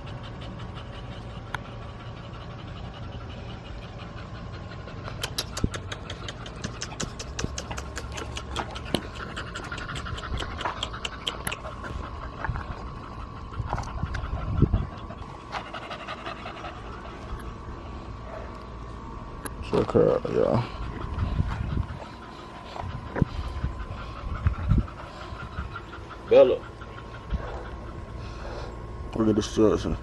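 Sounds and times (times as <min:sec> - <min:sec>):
dog panting rapidly: 0:00.0 - 0:18.6, 0:19.6 - 0:30.0
steady low hum: 0:00.0 - 0:30.0.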